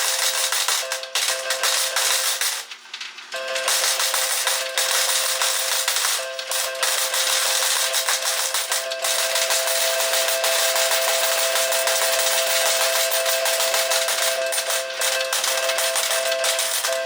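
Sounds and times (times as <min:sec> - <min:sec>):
slot machine clicks: 0:00.0 - 0:17.0.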